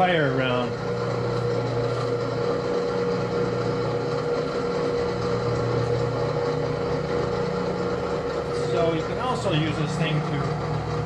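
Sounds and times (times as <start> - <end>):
electric motor humming: 0.0 - 11.0.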